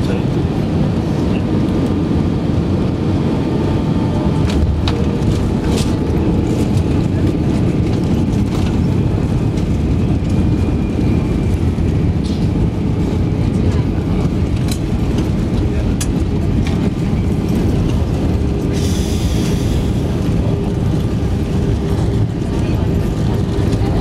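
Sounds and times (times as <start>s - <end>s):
jet engines low rumble: 0.0s - 24.0s.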